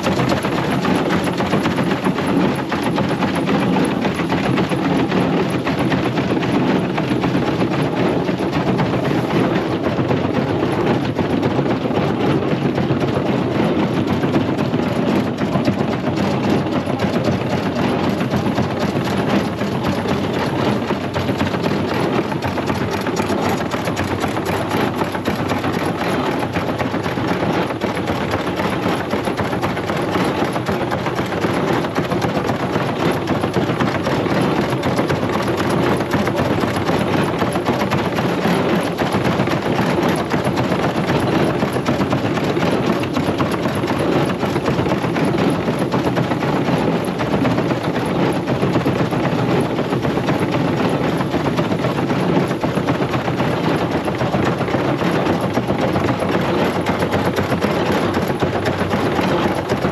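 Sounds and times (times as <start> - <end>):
threshing machine rattling: 0.0 - 59.9.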